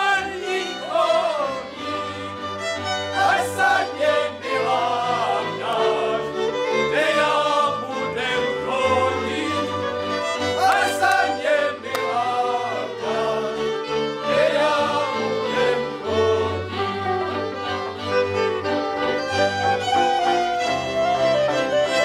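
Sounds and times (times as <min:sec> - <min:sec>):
group of singers: 0:00.0 - 0:17.8
fiddle: 0:00.0 - 0:22.0.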